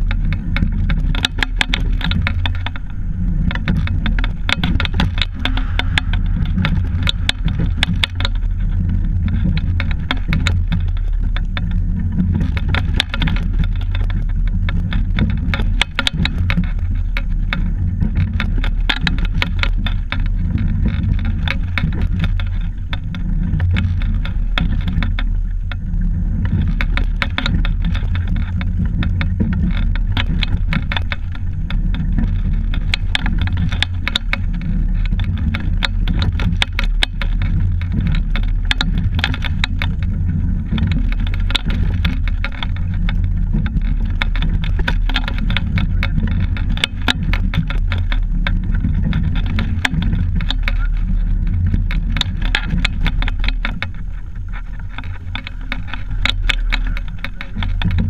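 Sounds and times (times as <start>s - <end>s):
low rumble of rowing boat: 0.0s - 58.0s
sculling gear clicking and rattling: 0.0s - 58.0s.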